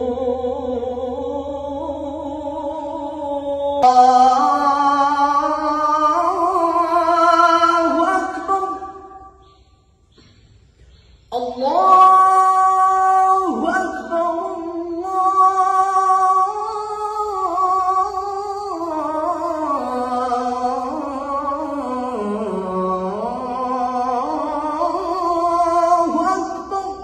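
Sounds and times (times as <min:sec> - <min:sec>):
man singing ornamented melody: 0:00.0 - 0:09.4, 0:11.3 - 0:27.0.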